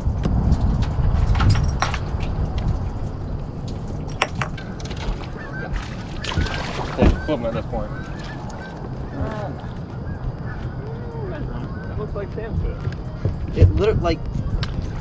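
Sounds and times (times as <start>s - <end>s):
steady low rumble: 0.0s - 6.2s, 7.6s - 15.0s.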